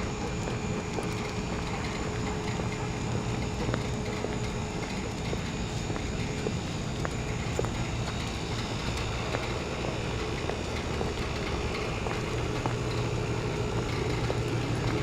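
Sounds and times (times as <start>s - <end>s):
footstep clicks: 0.0s - 15.0s
low mechanical hum: 0.0s - 15.0s.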